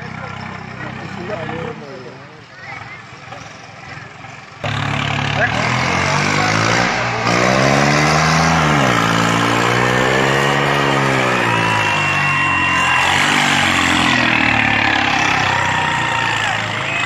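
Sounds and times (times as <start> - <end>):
tractor diesel engine revving: 0.0 - 17.0.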